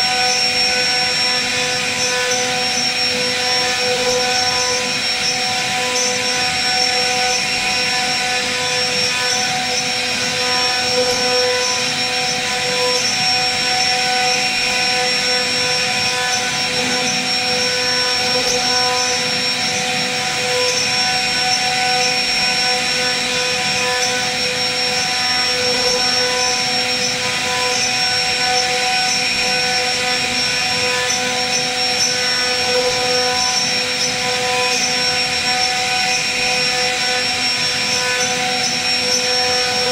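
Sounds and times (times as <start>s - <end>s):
bit cutting into wood: 0.0s - 39.9s
router spindle motor whining: 0.0s - 39.9s.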